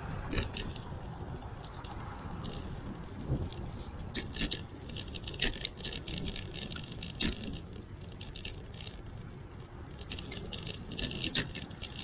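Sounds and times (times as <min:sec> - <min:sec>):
bicycle rattling: 0:00.0 - 0:12.0
tyres rumbling and wind: 0:00.0 - 0:12.0.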